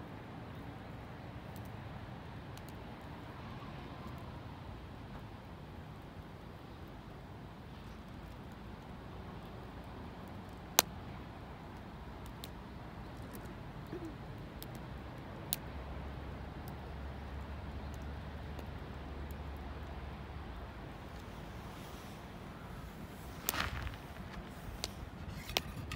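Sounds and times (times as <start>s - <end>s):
campfire crackling and popping: 2.3s - 3.3s, 5.8s - 25.9s.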